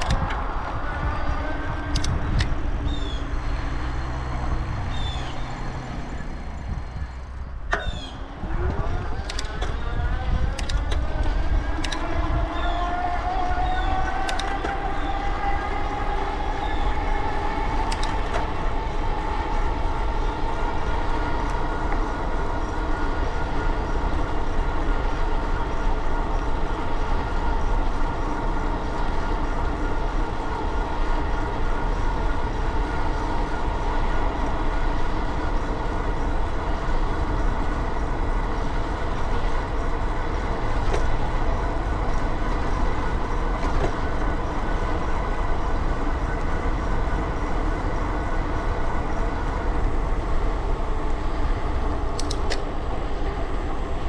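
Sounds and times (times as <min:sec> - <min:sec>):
wind rumble on microphone: 0:00.0 - 0:52.1
constant whine: 0:00.0 - 0:54.0.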